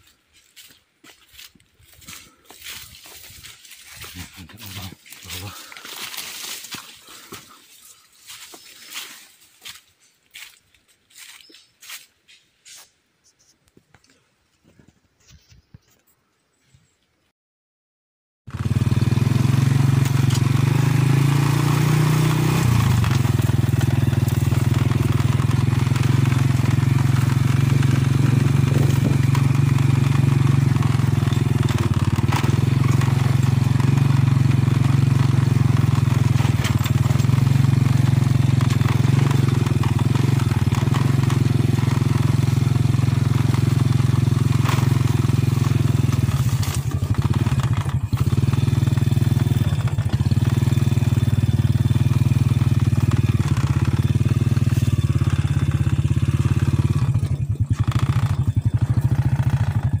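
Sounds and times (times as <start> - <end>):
motorcycle engine running: 0.0 - 11.5, 18.5 - 60.0.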